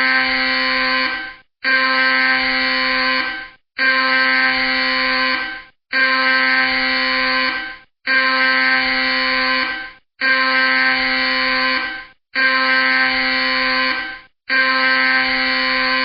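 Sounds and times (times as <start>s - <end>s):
loud alarm blasts: 0.0s - 16.0s.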